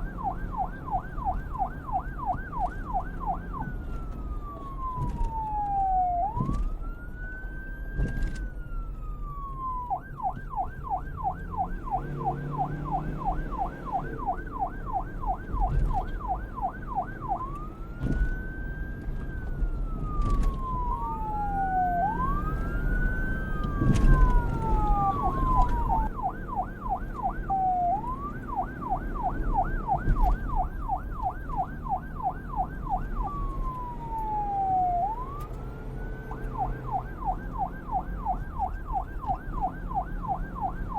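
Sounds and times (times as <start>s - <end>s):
police siren wail and yelp: 0.0s - 40.9s.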